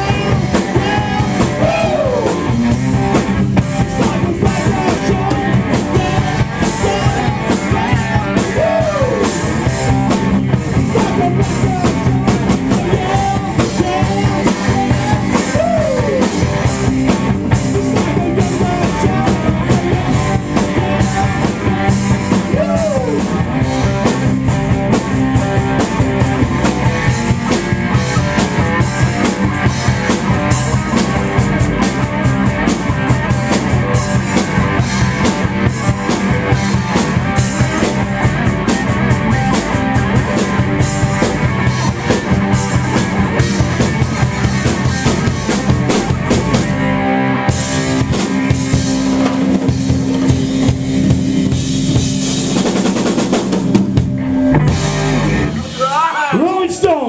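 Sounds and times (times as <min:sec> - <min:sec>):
guitar lead line bending notes: 0:00.0 - 0:56.9
live rock band playing: 0:00.0 - 0:57.0.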